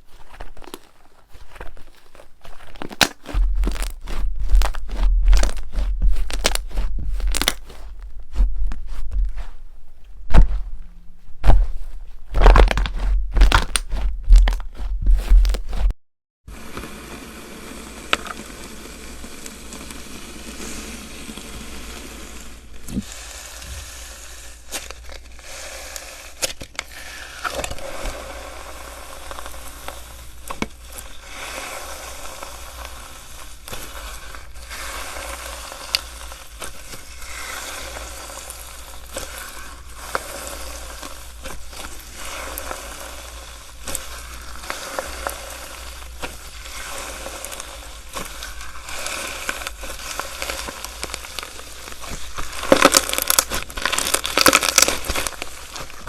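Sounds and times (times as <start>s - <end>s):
slime squeezed by hand crackling: 0.0s - 9.6s, 11.4s - 15.9s, 22.9s - 56.0s.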